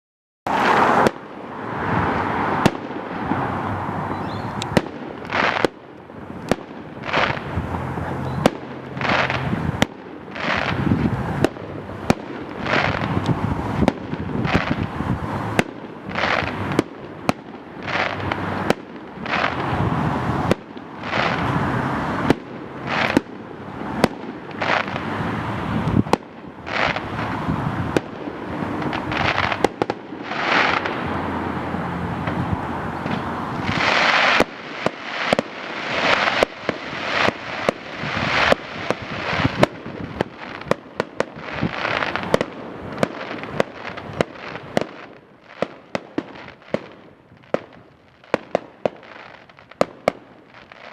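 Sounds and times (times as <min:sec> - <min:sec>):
noisy hiss and rumble: 0:00.5 - 0:50.9.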